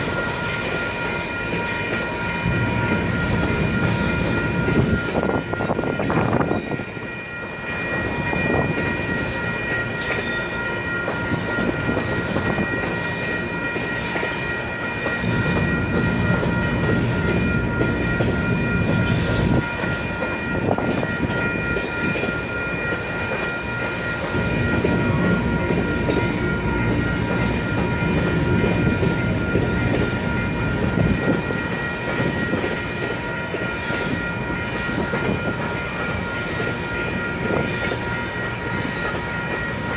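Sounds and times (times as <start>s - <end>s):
steady high ringing tone: 0.0s - 39.9s
train wheels rumbling and clacking: 0.0s - 39.9s.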